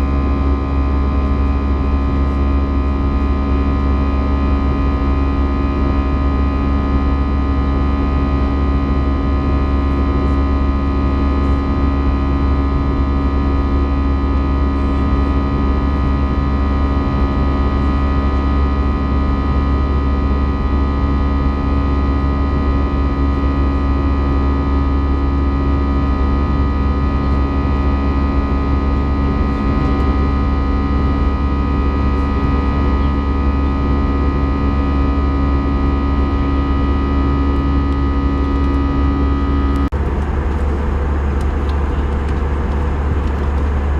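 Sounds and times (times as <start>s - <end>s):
airplane cabin engine drone: 0.0s - 43.9s.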